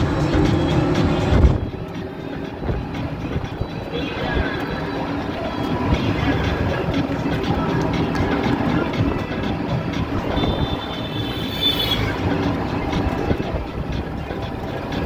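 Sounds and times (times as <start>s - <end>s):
vehicle running noise: 0.0s - 15.0s.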